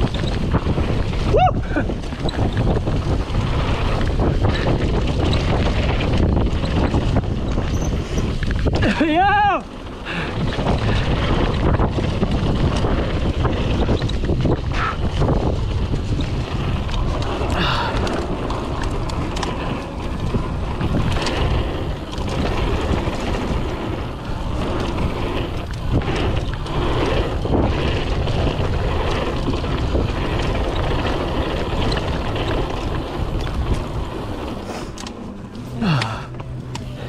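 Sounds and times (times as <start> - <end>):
bike rattling over dirt trail: 0.0 - 37.0
wind on microphone: 0.0 - 37.0.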